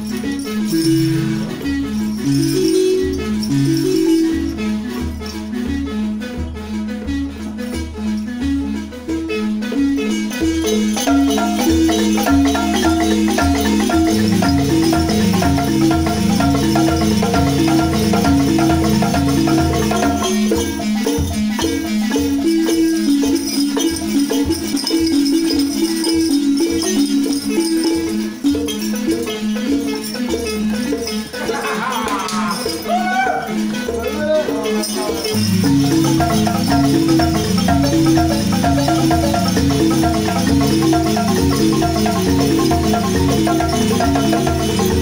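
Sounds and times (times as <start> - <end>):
wooden xylophones playing: 0.0 - 45.0.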